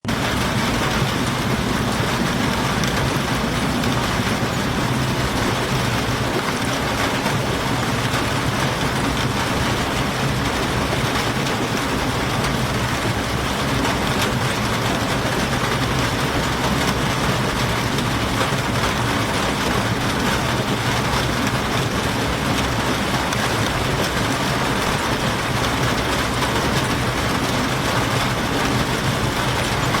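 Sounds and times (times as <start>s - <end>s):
low train rumble: 0.0s - 30.0s
steady rain hiss: 0.1s - 30.0s.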